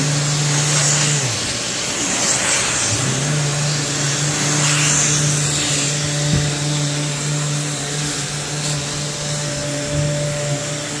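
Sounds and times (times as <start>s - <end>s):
orbital sander sanding: 0.0s - 11.0s.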